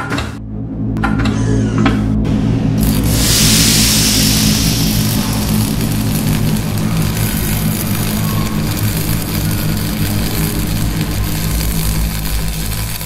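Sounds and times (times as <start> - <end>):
low engine-like drone: 0.0 - 13.0
hissing rush: 2.2 - 13.0.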